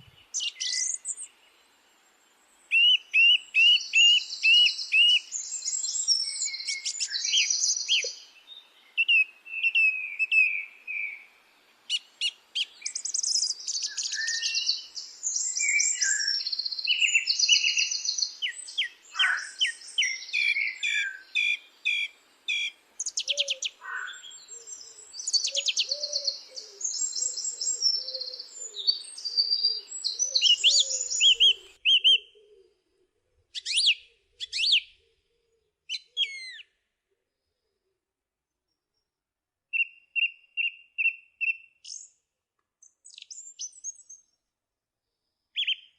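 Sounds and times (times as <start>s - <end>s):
lower repeated bird call: 0.0s - 1.4s, 2.7s - 36.8s, 39.7s - 42.2s, 45.6s - 45.9s
songbirds singing and calling: 0.0s - 37.8s, 38.6s - 45.9s.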